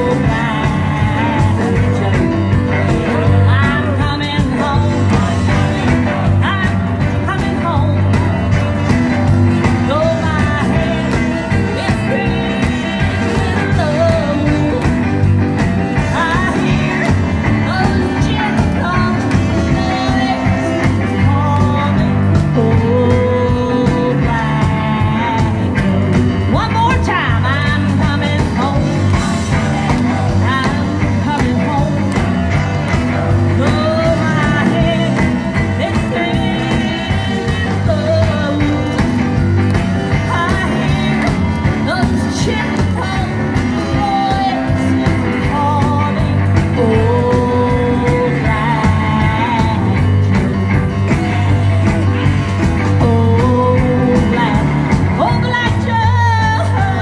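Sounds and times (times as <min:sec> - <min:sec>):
drums: 0:00.0 - 0:57.0
electric guitar: 0:00.0 - 0:57.0
upright bass: 0:00.0 - 0:57.0.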